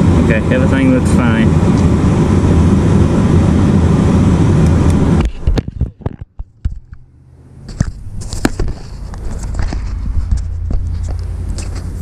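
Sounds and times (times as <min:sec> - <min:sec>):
blower fan rushing: 0:00.0 - 0:05.6, 0:07.0 - 0:12.0
low hum: 0:00.0 - 0:12.0.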